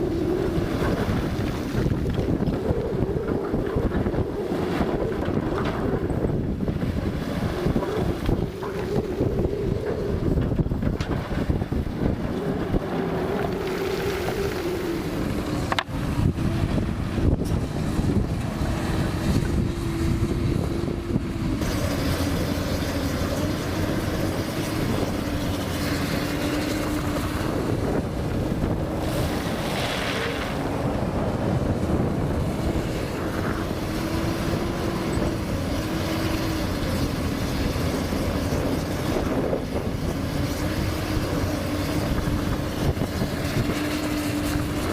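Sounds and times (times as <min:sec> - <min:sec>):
excavator diesel engine running: 0:00.0 - 0:44.9
wind buffeting microphone: 0:00.0 - 0:44.9.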